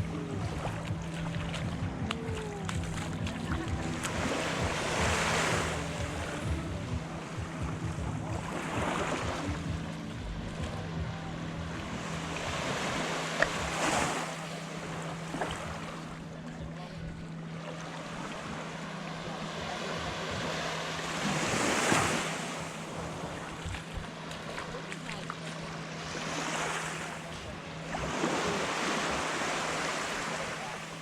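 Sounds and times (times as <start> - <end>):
small waves washing on sand: 0.0 - 16.2, 17.6 - 31.0
steady low hum: 0.0 - 31.0.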